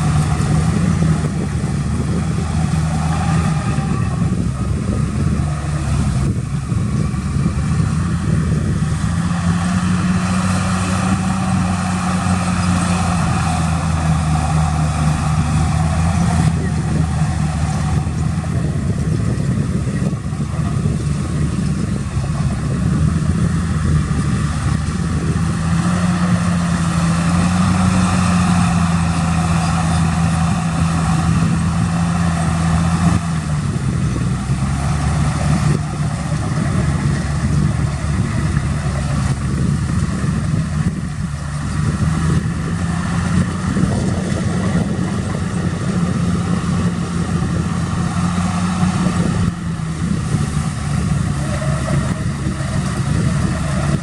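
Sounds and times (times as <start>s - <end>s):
large diesel engine under load: 0.0s - 54.0s.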